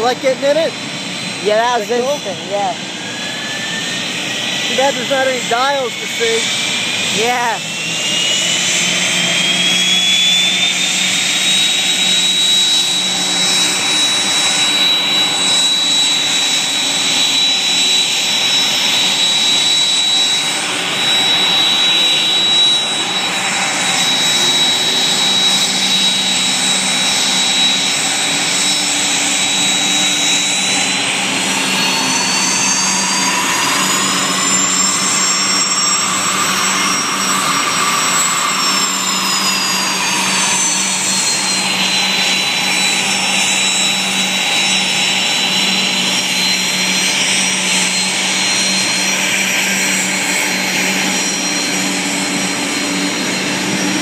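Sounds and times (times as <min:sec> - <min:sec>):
engine spooling up: 0:00.0 - 0:54.0
helicopter turbine whine: 0:00.0 - 0:54.0.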